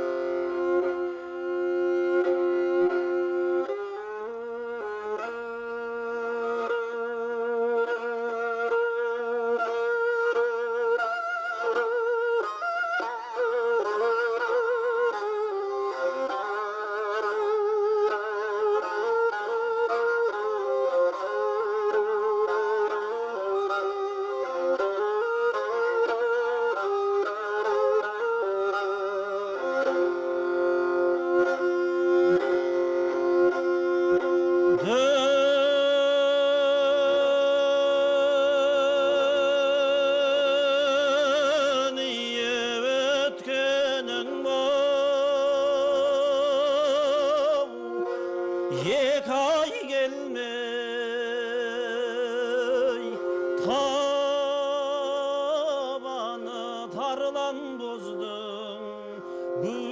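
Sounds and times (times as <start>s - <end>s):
bowed fiddle slow melody: 0.0s - 59.9s.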